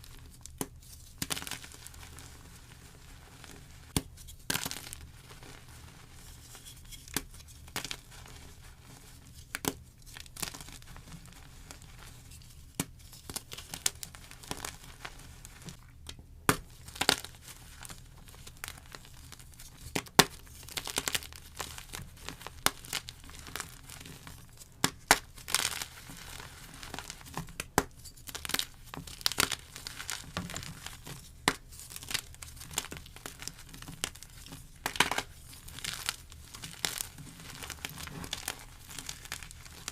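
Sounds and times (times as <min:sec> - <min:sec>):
chalk crumbling: 0:00.0 - 0:15.8, 0:16.7 - 0:39.9
chalk cracking and crunching: 0:00.0 - 0:15.9, 0:16.6 - 0:39.9.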